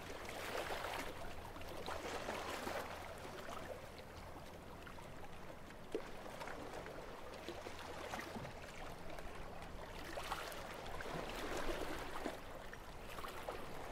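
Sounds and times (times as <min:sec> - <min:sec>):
sea water lapping among rocks: 0:00.0 - 0:04.0, 0:05.9 - 0:13.9.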